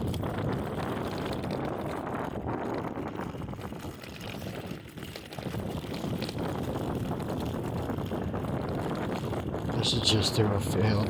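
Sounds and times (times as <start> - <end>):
low rumble of scooter riding: 0.0 - 11.0
wind rushing over microphone: 0.0 - 11.0.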